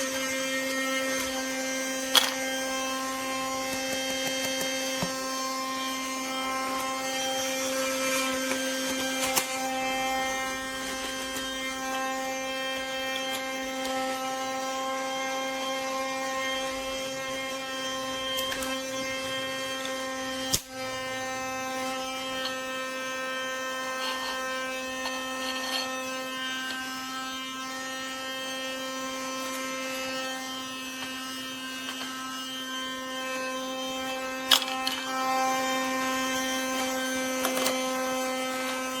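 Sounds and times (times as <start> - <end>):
toy vacuum motor humming: 0.0 - 39.0.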